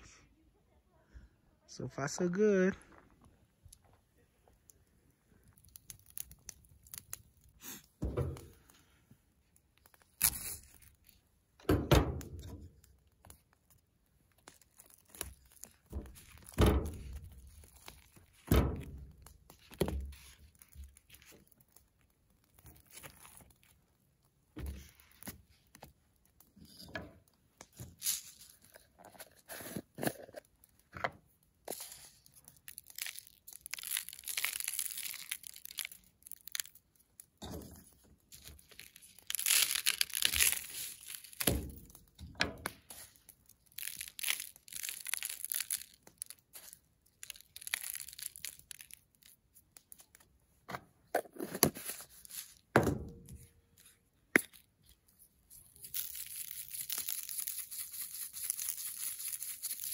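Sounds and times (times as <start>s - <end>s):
crunching and rustling: 2.8s - 50.4s, 51.1s - 59.9s.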